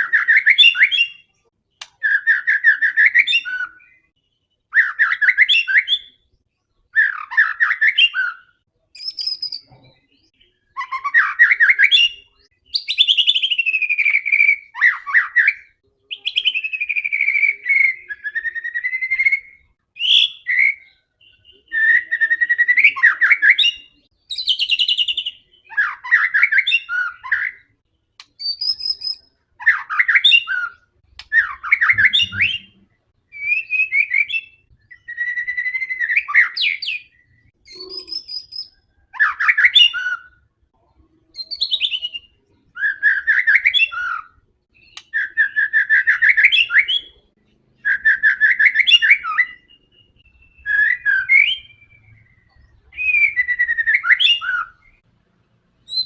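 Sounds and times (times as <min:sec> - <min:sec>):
songbird singing varied phrases: 0:00.0 - 0:55.0.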